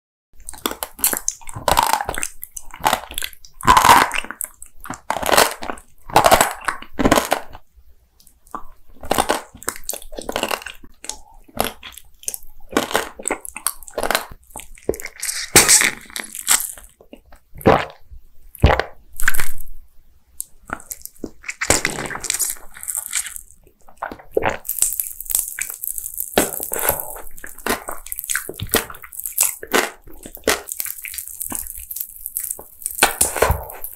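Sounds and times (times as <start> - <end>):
crunching hard candy: 0.4 - 7.6, 8.3 - 18.0, 18.6 - 19.8, 20.4 - 33.9
mouth chewing: 0.4 - 7.6, 8.2 - 18.0, 20.4 - 33.9.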